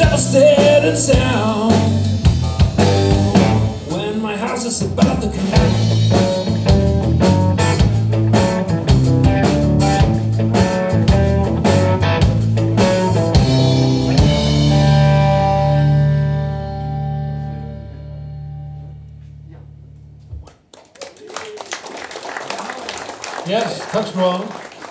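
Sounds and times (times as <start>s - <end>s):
blues band playing: 0.0s - 20.3s.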